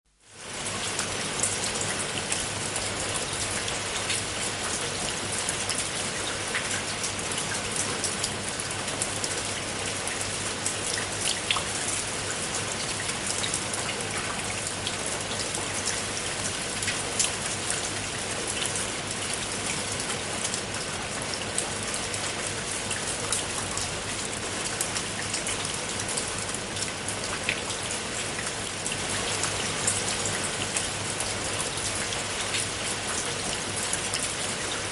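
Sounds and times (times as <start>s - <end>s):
rain on a tiled roof: 0.1s - 34.9s
raindrops ticking on tiles: 0.2s - 34.9s.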